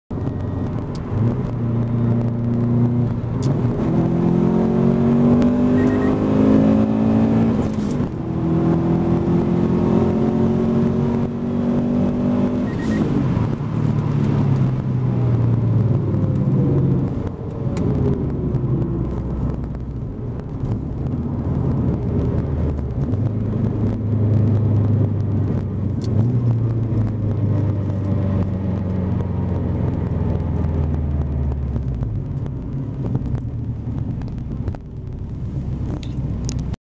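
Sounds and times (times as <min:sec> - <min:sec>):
car engine accelerating: 0:00.1 - 0:36.8.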